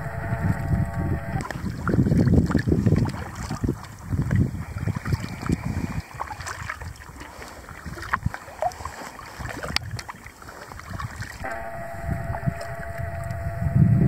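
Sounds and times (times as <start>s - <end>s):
wind buffeting microphone: 0.0s - 14.0s
water splashing and dripping: 1.4s - 13.4s.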